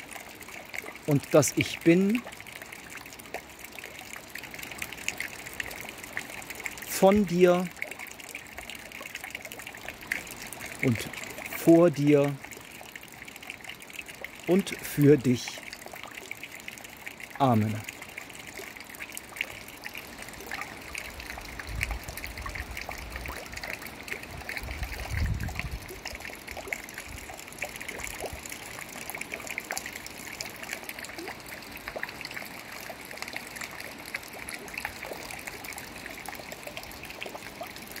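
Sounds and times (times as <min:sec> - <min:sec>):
water trickling and splashing: 0:00.0 - 0:38.0.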